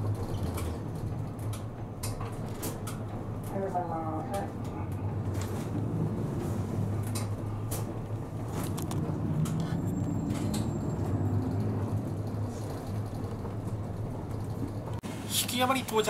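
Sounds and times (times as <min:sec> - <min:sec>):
interior rattles and clicks: 0:00.0 - 0:15.0
bus engine drone: 0:00.0 - 0:16.0.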